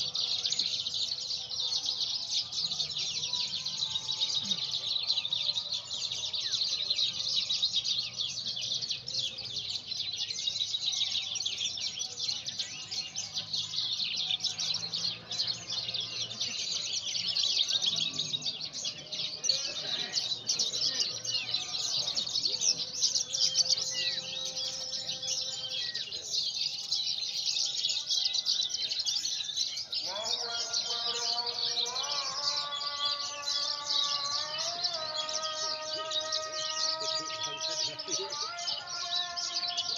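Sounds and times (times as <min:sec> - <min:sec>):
bird chirping and trilling: 0:02.8 - 0:39.9.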